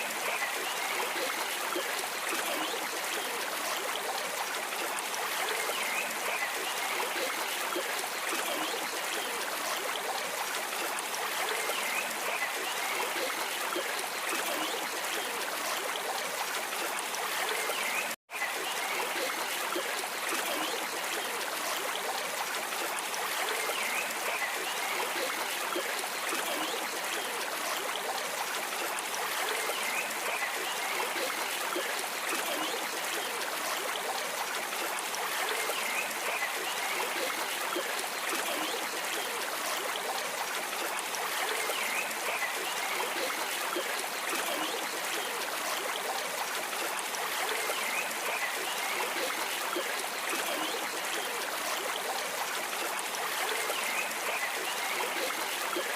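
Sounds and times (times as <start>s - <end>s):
stream flowing: 0.0s - 55.9s.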